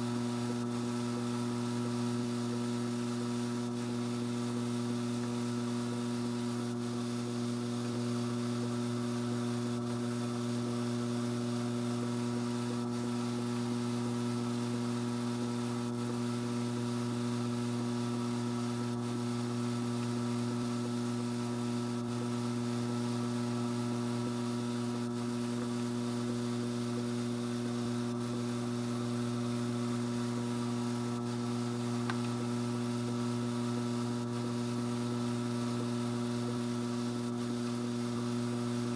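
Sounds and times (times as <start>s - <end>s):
drum carder motor humming: 0.0s - 38.9s.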